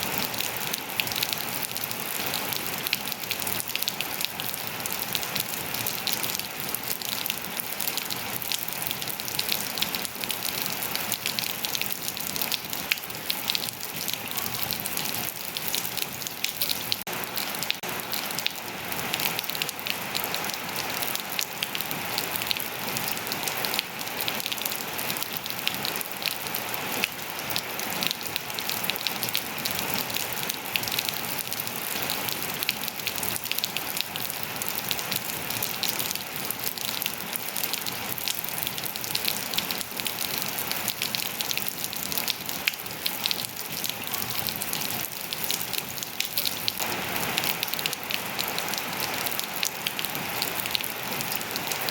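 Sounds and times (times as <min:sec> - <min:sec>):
rain on hard surfaces: 0:00.0 - 0:51.9.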